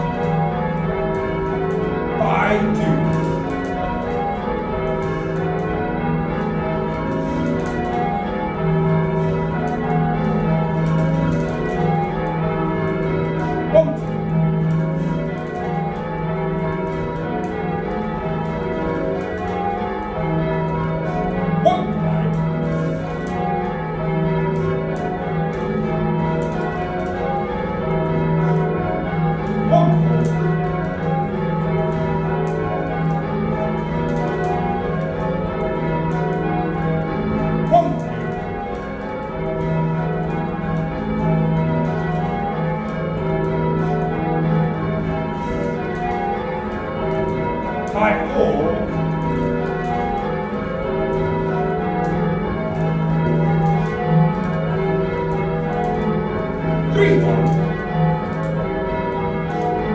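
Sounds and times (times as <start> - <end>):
church bells ringing changes: 0.0 - 59.9.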